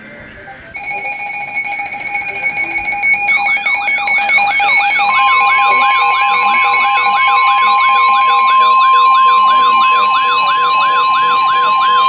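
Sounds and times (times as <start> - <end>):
fast up-and-down siren sweep: 0.8 - 12.0
intermittent beeping tones: 0.8 - 12.0
steady warning alarm tone: 0.8 - 12.0.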